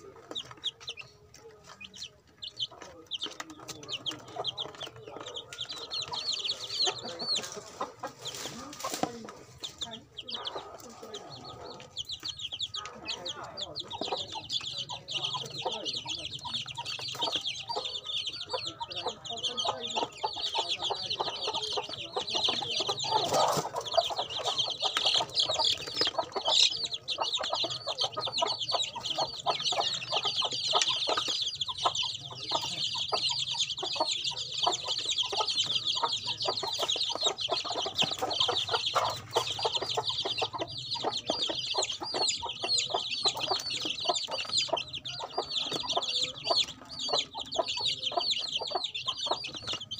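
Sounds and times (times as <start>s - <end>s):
beaks pecking at litter: 0.0s - 49.9s
chicks peeping: 0.0s - 49.9s.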